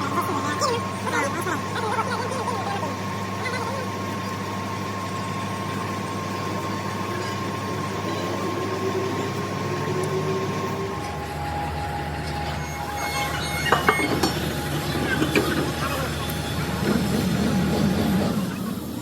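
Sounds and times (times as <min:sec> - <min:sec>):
machine humming drone and whine: 0:00.0 - 0:19.0.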